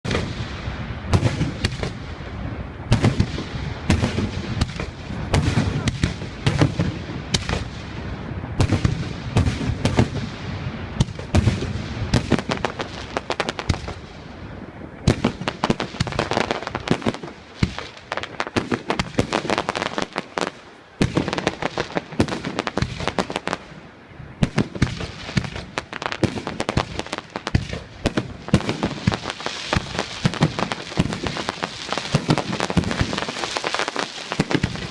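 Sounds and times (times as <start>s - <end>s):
deep fireworks booms: 0.0s - 34.9s
fireworks bangs and crackling: 0.0s - 34.9s.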